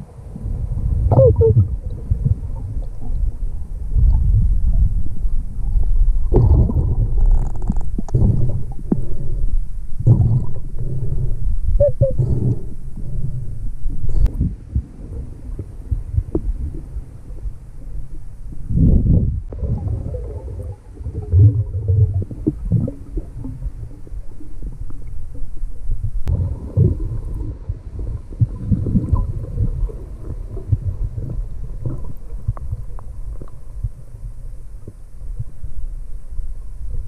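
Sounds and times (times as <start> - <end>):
underwater bubbles gurgling: 0.0 - 37.0.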